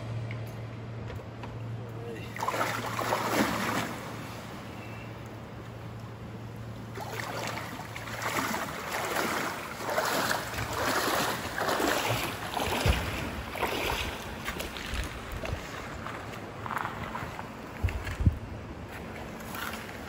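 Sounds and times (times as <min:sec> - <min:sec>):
water sloshing around wading legs: 0:02.2 - 0:06.0, 0:06.6 - 0:20.0.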